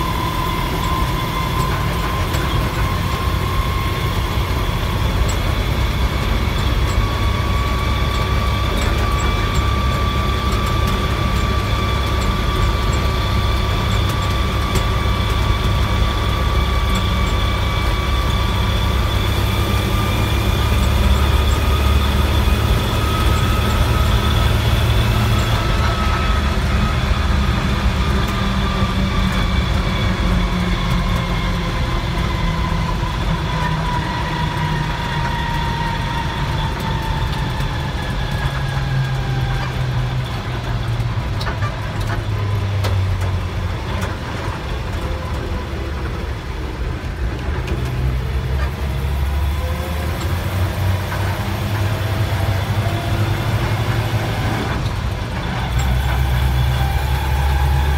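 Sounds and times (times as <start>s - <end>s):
truck engine running: 0.0s - 57.9s
whine: 0.0s - 57.9s.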